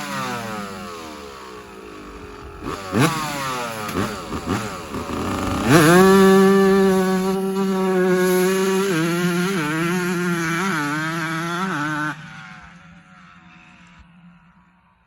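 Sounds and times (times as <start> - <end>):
dirt bike engine revving: 0.0 - 12.1.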